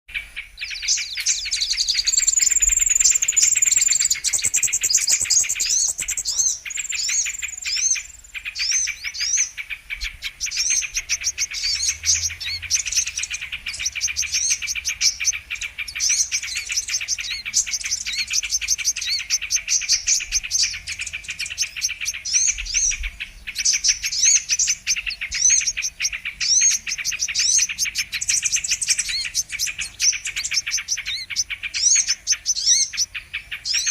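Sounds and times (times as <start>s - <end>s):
bird chirping and twittering: 0.1s - 33.9s.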